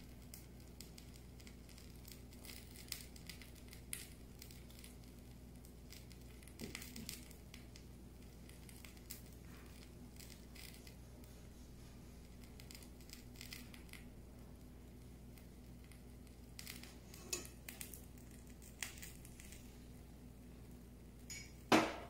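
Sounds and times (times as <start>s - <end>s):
steady low hum: 0.0s - 22.0s
soft rustles and taps of food: 0.1s - 19.8s.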